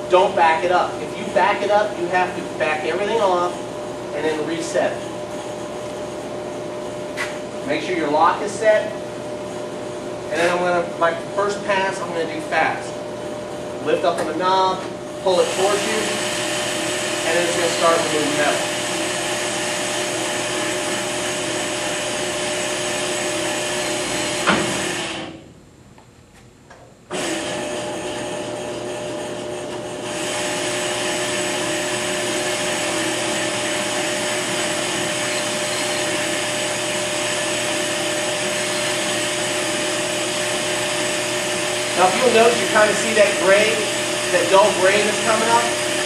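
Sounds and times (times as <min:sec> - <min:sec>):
brake lathe humming and whining: 0:00.0 - 0:25.6, 0:26.7 - 0:46.0.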